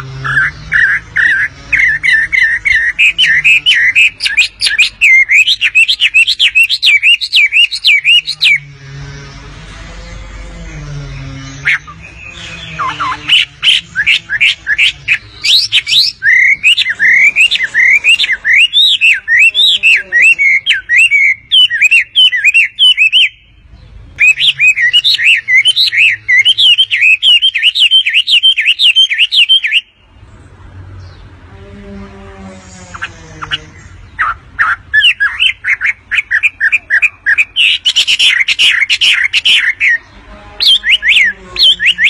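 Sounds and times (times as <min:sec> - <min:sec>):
bird chattering chirps: 0:00.0 - 0:08.7, 0:11.4 - 0:30.2, 0:32.9 - 0:42.0.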